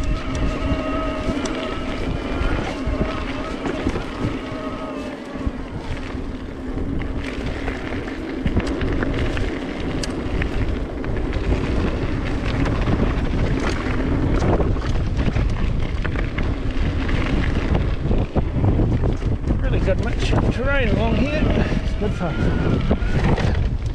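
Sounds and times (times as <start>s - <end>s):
bike clicks and rattles: 0.0s - 23.9s
bike tyre noise: 0.0s - 23.9s
wind rumbling on microphone: 0.0s - 23.9s.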